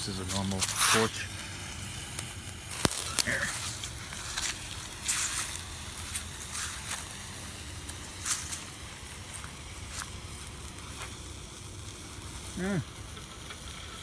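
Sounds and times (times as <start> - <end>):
firework fizzing and crackling: 0.0 - 14.0.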